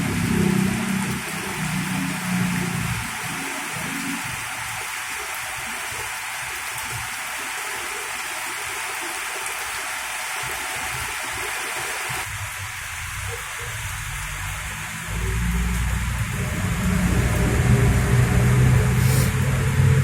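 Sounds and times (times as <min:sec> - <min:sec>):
heavy rain on plants: 0:00.0 - 0:20.0.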